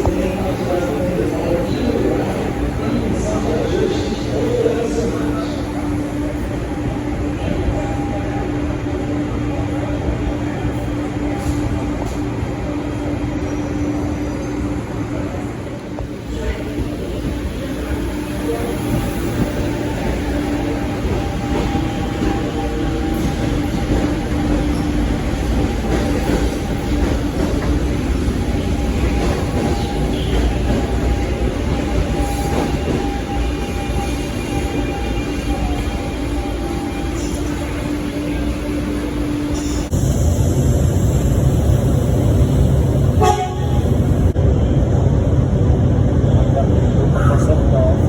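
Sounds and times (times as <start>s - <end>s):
electric train rumble and hum: 0.0s - 48.0s.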